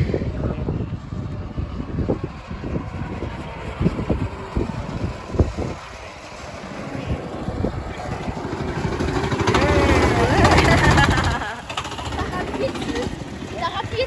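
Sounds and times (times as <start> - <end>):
go-kart engine running: 0.0 - 14.0
wind buffeting microphone: 0.0 - 14.0.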